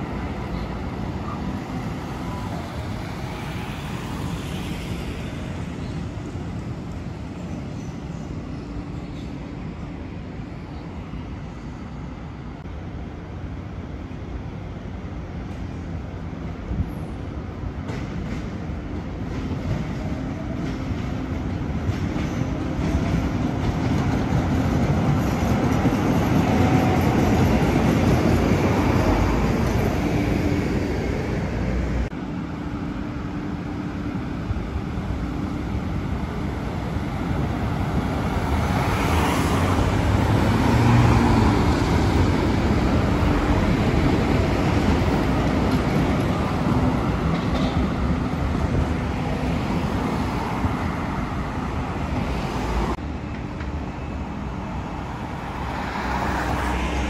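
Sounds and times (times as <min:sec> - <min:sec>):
light rail train passing: 0:00.0 - 0:57.0
road traffic: 0:00.0 - 0:57.0.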